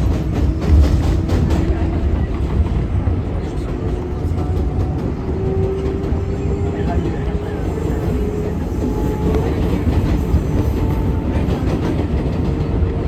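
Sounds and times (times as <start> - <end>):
subway train wheels rumbling on rail: 0.0 - 13.0.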